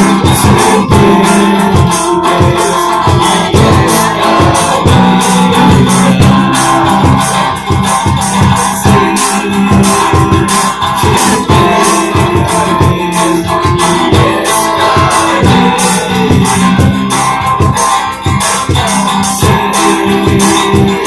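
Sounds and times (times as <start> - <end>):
drums fast beat: 0.0 - 21.0
electric guitar: 0.0 - 21.0
strummed acoustic guitar: 0.0 - 21.0.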